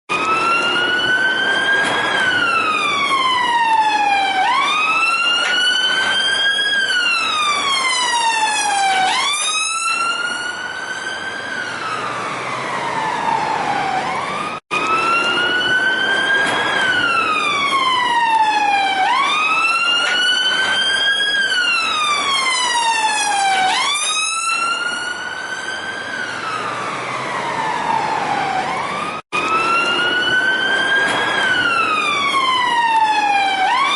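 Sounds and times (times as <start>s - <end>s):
siren wailing: 0.1s - 33.9s.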